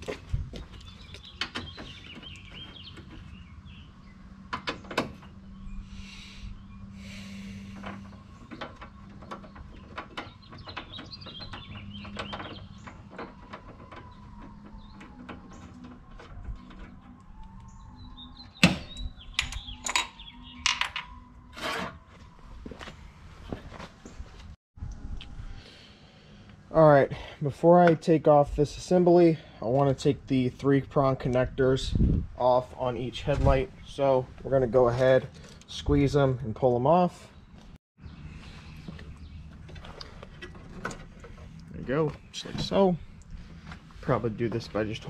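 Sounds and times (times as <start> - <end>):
birds chirping: 0.0 - 21.5, 25.6 - 45.0.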